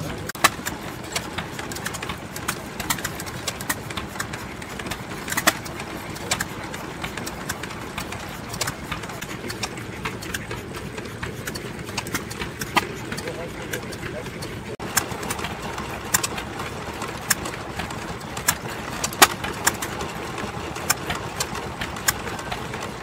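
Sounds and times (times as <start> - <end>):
stationary engine running: 0.0 - 23.0.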